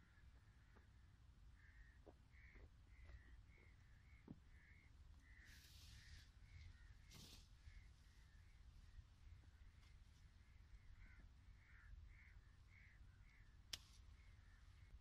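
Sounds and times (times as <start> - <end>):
short bird calls: 1.6 - 15.0.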